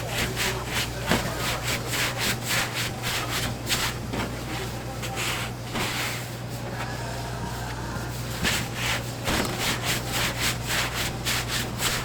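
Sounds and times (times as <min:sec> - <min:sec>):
dough rubbed on wooden surface: 0:00.0 - 0:12.0.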